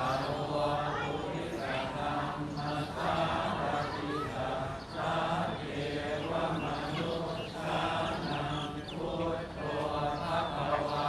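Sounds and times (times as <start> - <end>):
low steady chanting: 0.0 - 11.0.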